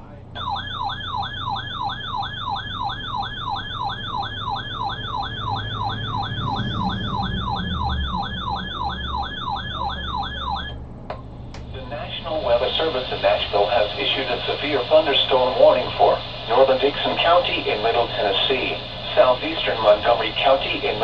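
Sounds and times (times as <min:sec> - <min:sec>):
warbling electronic alarm siren: 0:00.4 - 0:10.8, 0:12.4 - 0:21.0.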